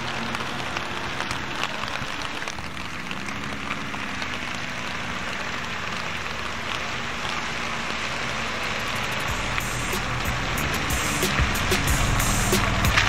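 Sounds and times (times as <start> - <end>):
rain hissing and pattering: 0.0 - 13.0.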